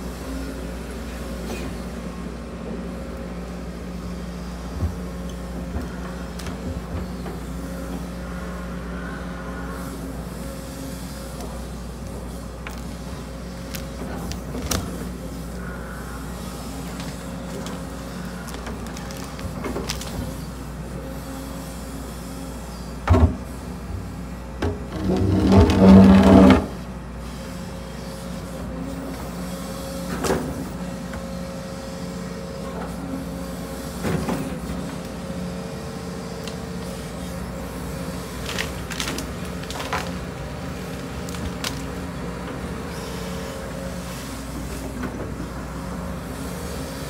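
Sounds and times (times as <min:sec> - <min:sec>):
excavator engine and hydraulics: 0:00.0 - 0:47.0.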